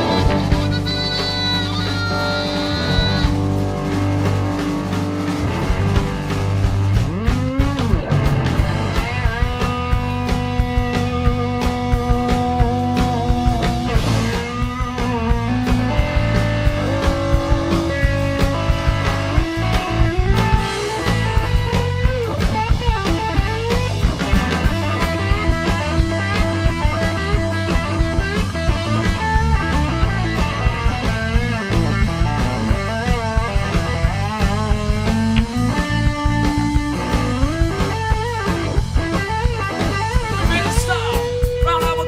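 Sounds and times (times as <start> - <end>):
bass guitar: 0.0 - 42.0
electric lead guitar bending notes: 0.0 - 42.0
steady drum beat: 0.0 - 42.0.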